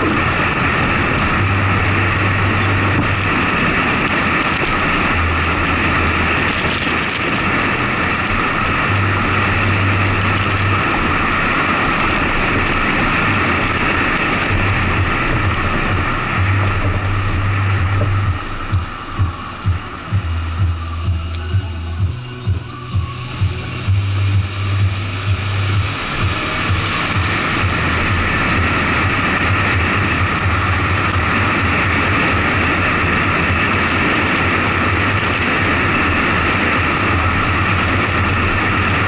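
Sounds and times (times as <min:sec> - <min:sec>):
low road rumble: 0:00.0 - 0:39.0
wind rush: 0:00.0 - 0:39.0.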